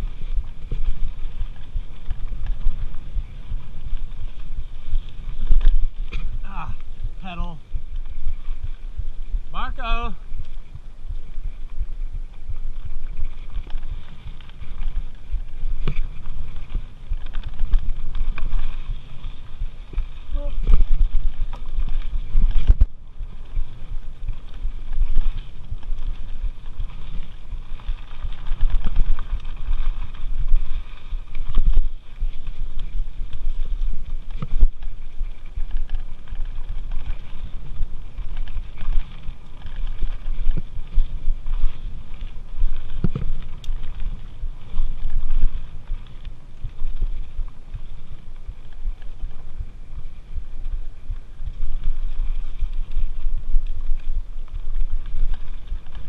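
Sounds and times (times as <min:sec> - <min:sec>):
bike tyres rumbling on trail: 0:00.0 - 0:56.0
wind on microphone: 0:00.0 - 0:56.0.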